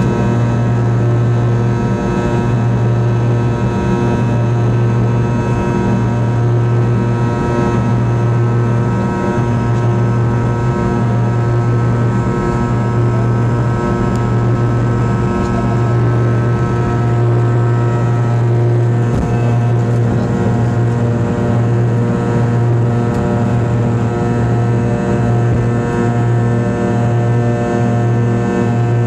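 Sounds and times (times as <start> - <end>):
jet engines droning in cabin: 0.0 - 29.0.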